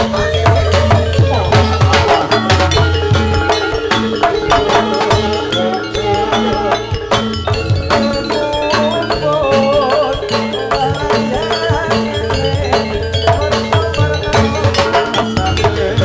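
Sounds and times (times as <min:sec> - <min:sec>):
drums beating: 0:00.0 - 0:16.0
struck metallophones: 0:00.0 - 0:16.0
wavering melody line: 0:00.0 - 0:16.0.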